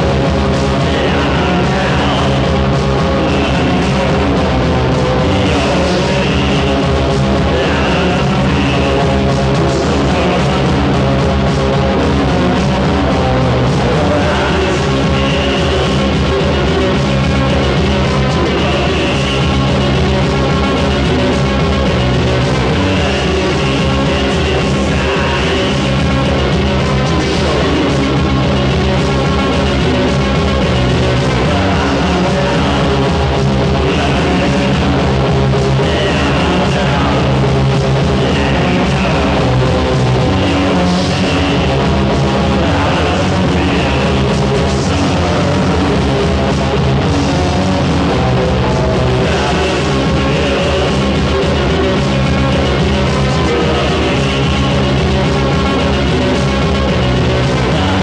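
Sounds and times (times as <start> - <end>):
loud rock music: 0.0 - 58.0.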